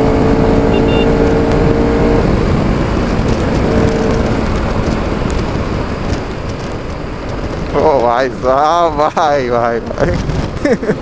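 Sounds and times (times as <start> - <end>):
faint motorcycle engine: 0.0 - 10.8
road rumble: 0.0 - 11.0
wind rush: 0.0 - 11.0.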